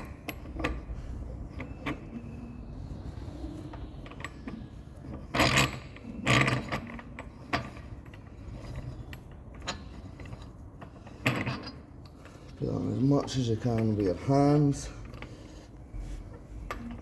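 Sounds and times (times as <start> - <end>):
metal wheel clanking: 0.0 - 15.6.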